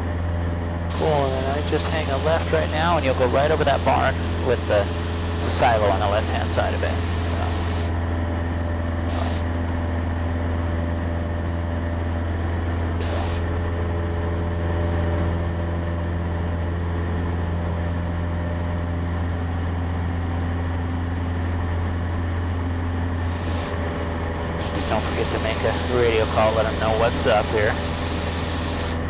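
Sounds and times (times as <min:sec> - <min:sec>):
airplane engine droning in cabin: 0:00.0 - 0:29.0.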